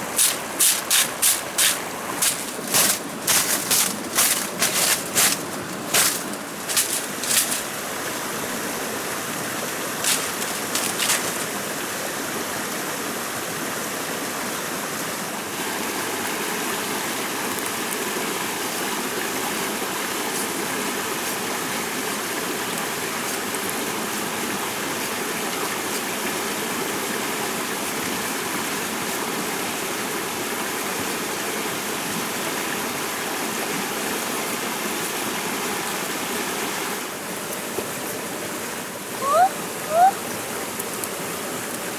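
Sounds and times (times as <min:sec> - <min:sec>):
flowing water: 0:00.0 - 0:41.9.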